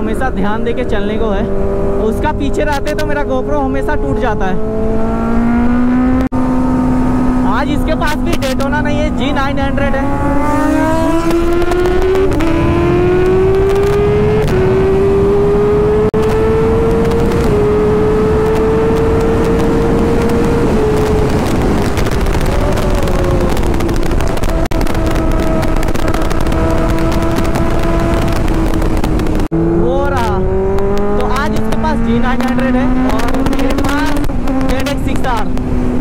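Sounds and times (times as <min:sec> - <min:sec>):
wind rush on microphone: 0:00.0 - 0:36.0
motorcycle engine revving hard: 0:00.5 - 0:36.0.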